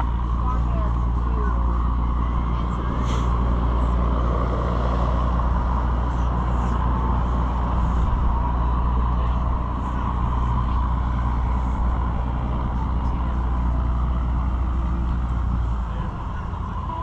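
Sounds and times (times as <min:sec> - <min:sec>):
large engine humming: 0:00.0 - 0:17.0.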